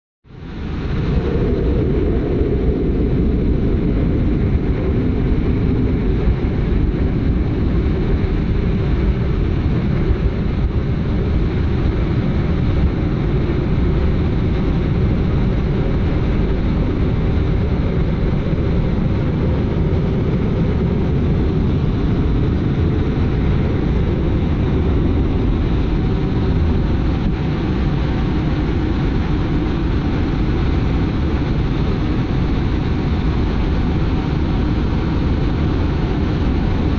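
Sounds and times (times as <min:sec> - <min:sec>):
jet engines rumbling: 0:00.3 - 0:36.9.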